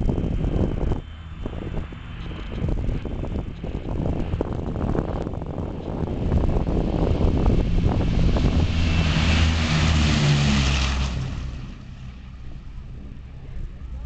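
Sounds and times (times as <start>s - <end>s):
propeller plane engines roaring: 0.0s - 14.0s.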